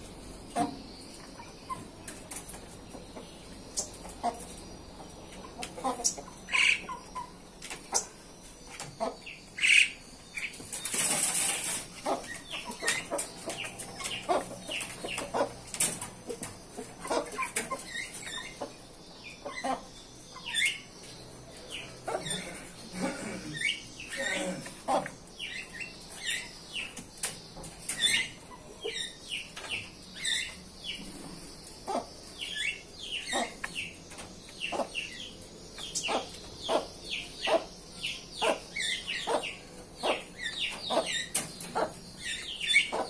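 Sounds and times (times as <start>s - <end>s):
birds calling: 0.0s - 43.0s.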